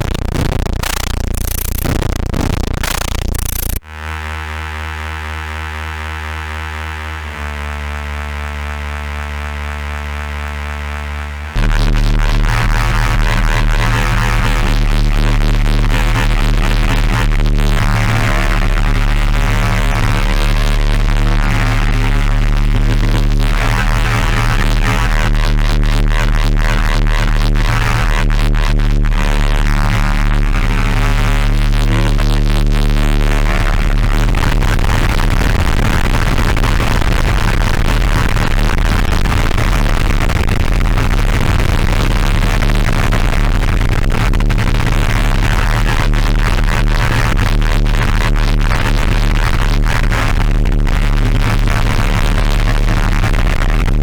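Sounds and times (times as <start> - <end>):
strong bass hum: 0.0 - 54.0
distorted synth strings chord: 2.8 - 46.6.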